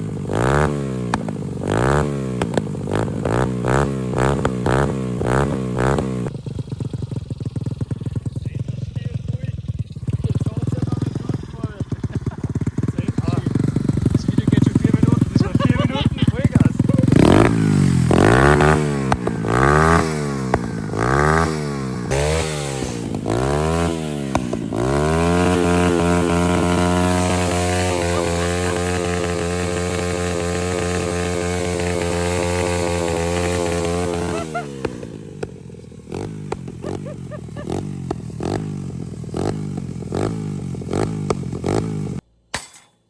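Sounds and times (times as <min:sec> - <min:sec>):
pit bike engine revving: 0:00.0 - 0:42.3.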